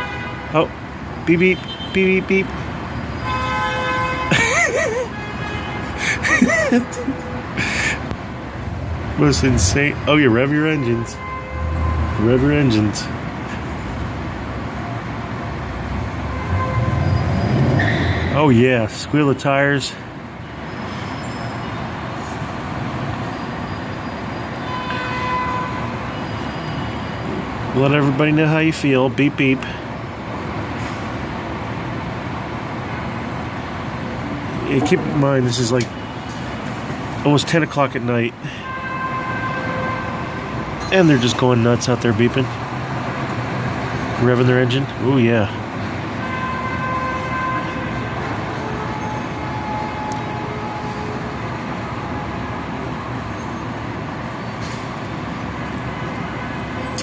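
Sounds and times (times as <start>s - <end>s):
city street traffic: 0.0s - 57.0s.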